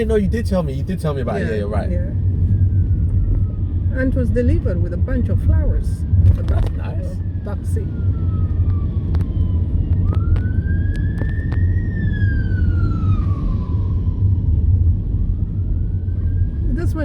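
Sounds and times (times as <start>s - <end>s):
car rumbling on the road: 0.0s - 17.0s
siren wailing: 1.3s - 17.0s.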